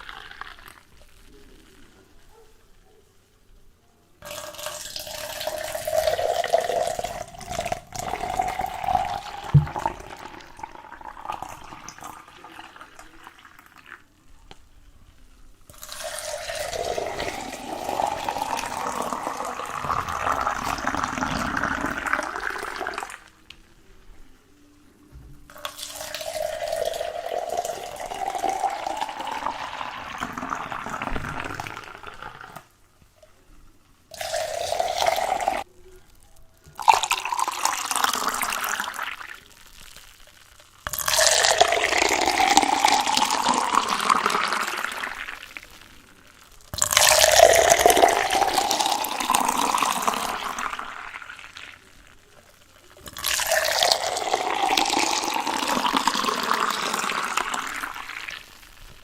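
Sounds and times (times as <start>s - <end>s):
water filling container: 0.0s - 1.8s, 4.2s - 14.1s, 15.6s - 23.5s, 25.5s - 32.7s, 34.1s - 35.7s, 36.6s - 59.0s.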